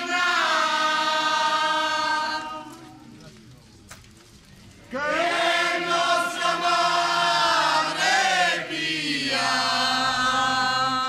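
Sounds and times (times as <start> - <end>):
group singing a chant in unison: 0.0 - 2.8, 4.9 - 11.0.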